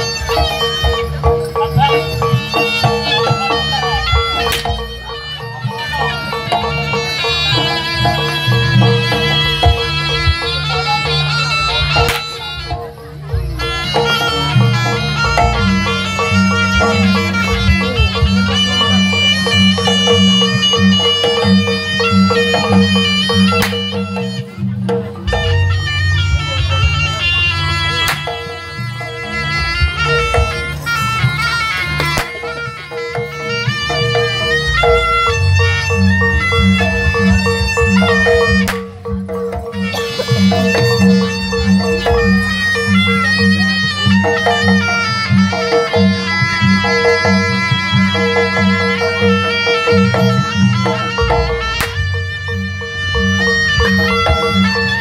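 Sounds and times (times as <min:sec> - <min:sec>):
drums and gongs: 0:00.0 - 0:55.0
shawm playing nasal melody: 0:00.0 - 0:55.0.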